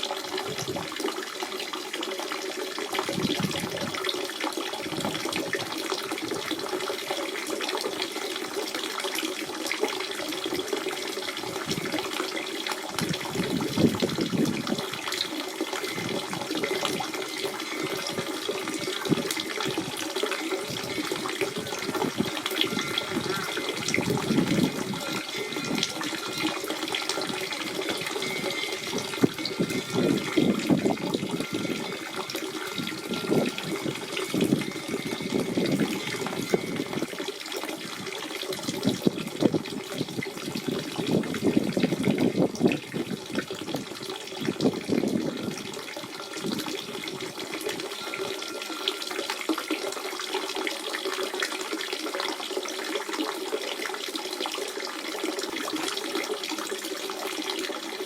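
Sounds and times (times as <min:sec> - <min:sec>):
water running and splashing: 0:00.0 - 0:58.0.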